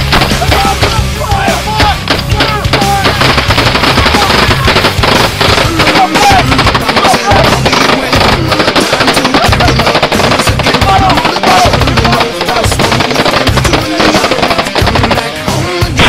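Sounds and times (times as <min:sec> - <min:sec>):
automatic gunfire: 0:02.0 - 0:15.5.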